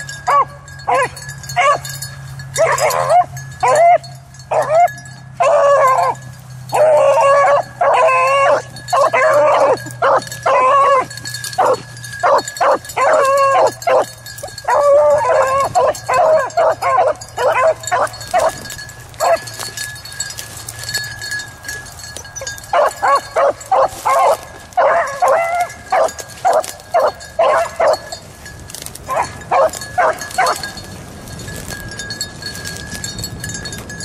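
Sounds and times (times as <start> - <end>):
hounds baying: 0.0 - 34.0.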